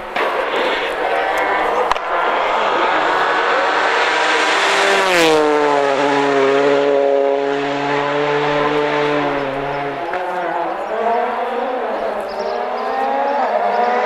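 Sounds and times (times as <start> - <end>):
rally car passing at speed: 0.0 - 14.0.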